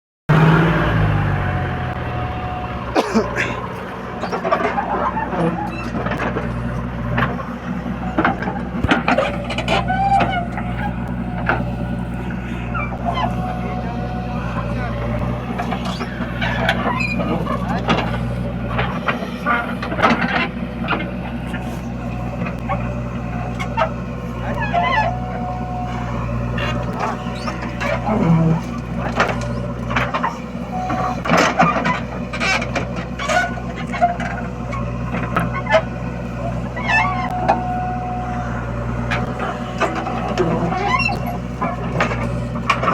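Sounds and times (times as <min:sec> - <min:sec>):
diesel engine of heavy machinery: 0:00.3 - 0:42.9.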